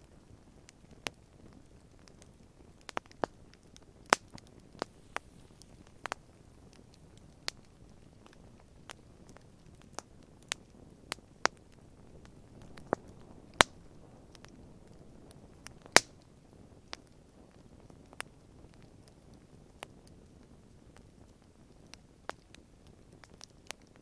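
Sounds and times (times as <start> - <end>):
faint low hiss: 0.0 - 24.0
campfire crackling and popping: 0.4 - 24.0.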